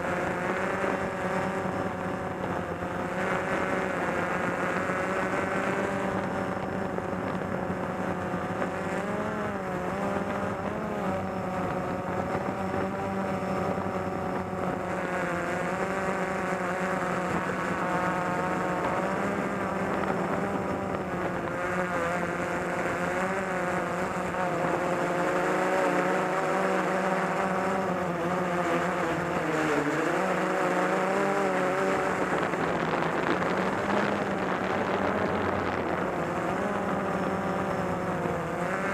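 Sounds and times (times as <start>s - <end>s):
drone motors buzzing: 0.0s - 38.9s.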